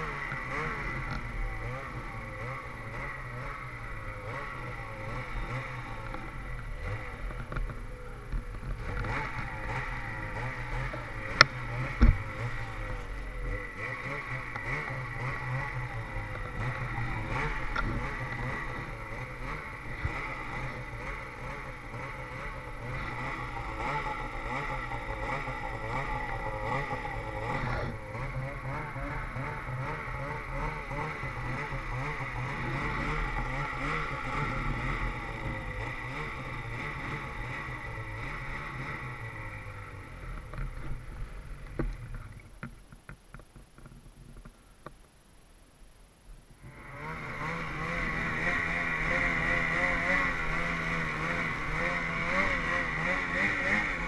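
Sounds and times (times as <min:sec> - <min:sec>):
snowmobile engine running: 0:00.0 - 0:42.4, 0:46.6 - 0:54.0.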